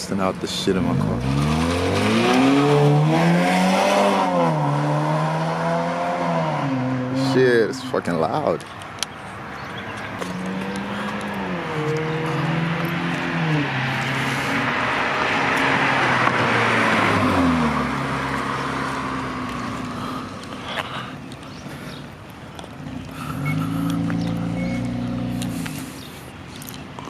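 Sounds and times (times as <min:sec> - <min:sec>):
car engine accelerating: 0:00.5 - 0:08.4, 0:09.6 - 0:20.6, 0:21.3 - 0:26.7.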